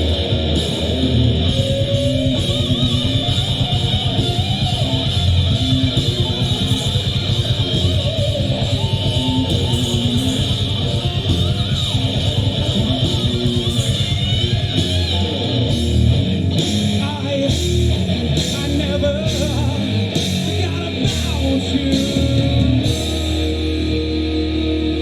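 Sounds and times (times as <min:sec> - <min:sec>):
drum and cymbal hits: 0:00.0 - 0:23.8
bass guitar: 0:00.0 - 0:25.0
electric guitar strumming: 0:00.0 - 0:25.0.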